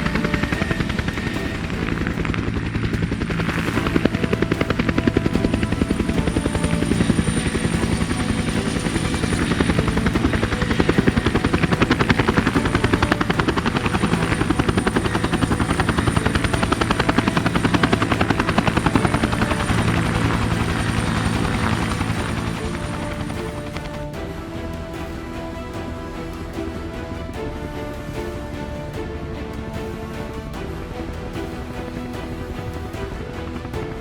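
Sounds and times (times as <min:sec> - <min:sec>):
engine hum: 0:00.0 - 0:34.0
helicopter rotor chop: 0:00.0 - 0:34.0
high-pitched whine: 0:00.0 - 0:34.0.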